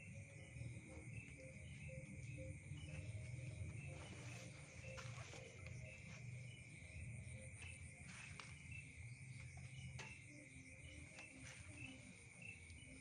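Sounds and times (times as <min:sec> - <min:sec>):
insect chirps: 0:00.0 - 0:13.0.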